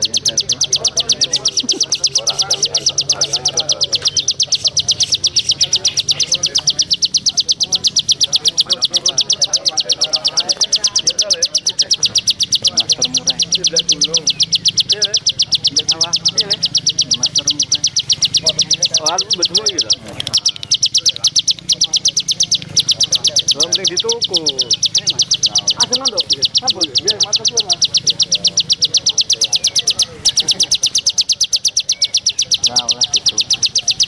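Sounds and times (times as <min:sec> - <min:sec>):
cricket chirping: 0:00.0 - 0:34.0
faint bird chirps: 0:00.0 - 0:34.0.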